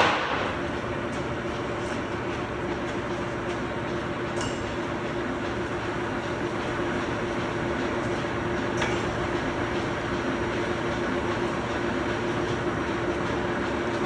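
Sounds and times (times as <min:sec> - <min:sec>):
machinery hum and rumble: 0:00.0 - 0:14.0.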